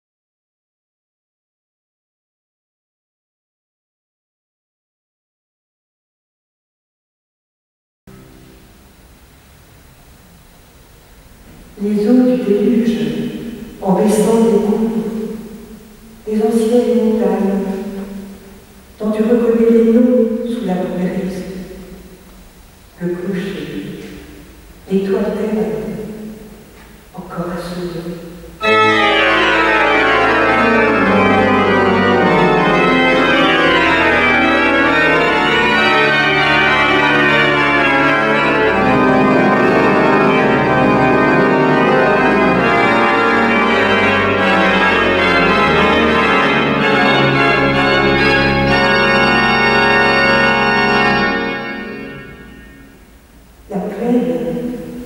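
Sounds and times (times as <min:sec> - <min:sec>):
church pipe organ playing chords: 0:08.1 - 0:55.0.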